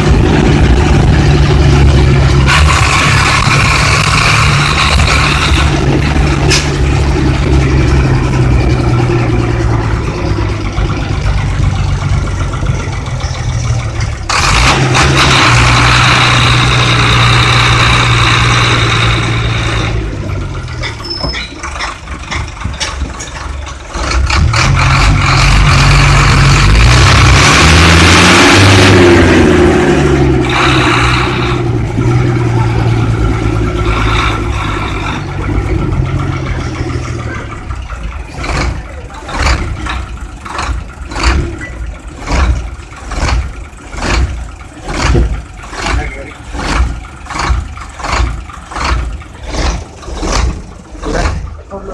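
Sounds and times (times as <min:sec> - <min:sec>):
diesel bus engine under load: 0:00.0 - 0:51.9.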